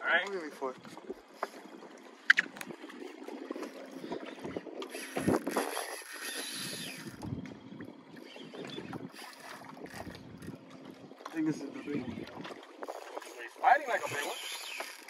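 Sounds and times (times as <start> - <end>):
water lapping at boat hull: 0.0 - 15.0
wind buffeting microphone: 0.0 - 15.0.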